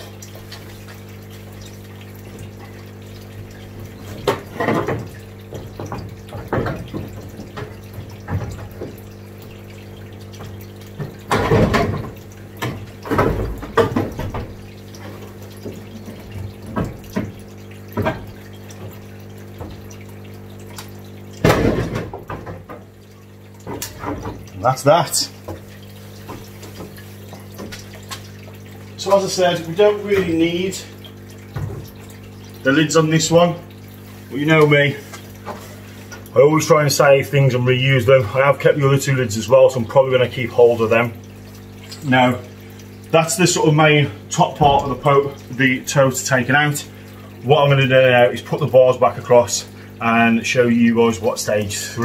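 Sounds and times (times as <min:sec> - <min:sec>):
trickling water: 0:00.0 - 0:52.0.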